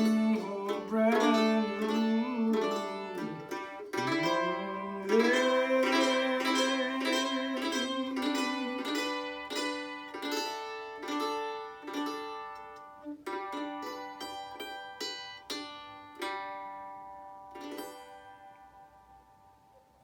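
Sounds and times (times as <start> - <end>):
plucked string instrument notes: 0.0 - 20.0.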